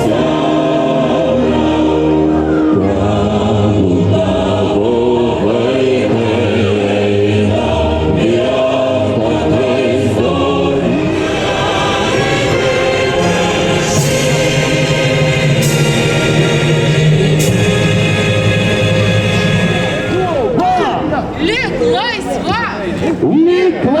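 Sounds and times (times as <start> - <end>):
choir singing: 0.0 - 23.4
instrumental accompaniment: 3.3 - 23.2.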